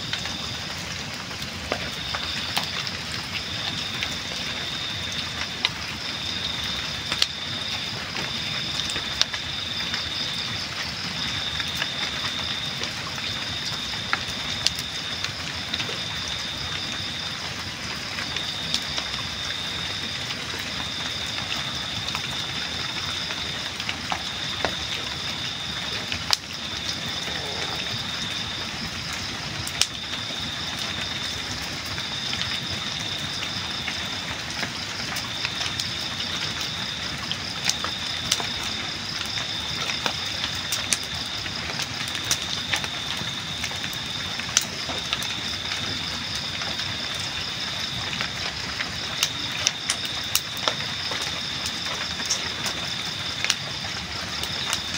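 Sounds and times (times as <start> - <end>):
campfire crackling and hissing: 0.0 - 54.9
night insects trilling: 0.0 - 54.9.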